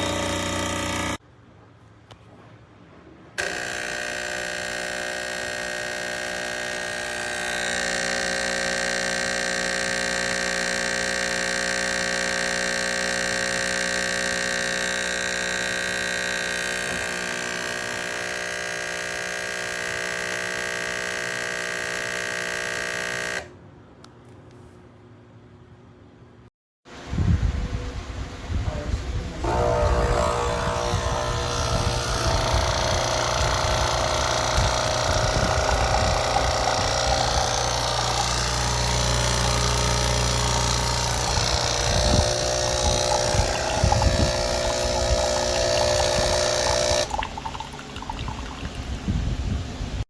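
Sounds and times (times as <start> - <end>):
coffee machine pump buzzing: 0.0 - 1.2, 3.4 - 23.6, 29.4 - 50.0.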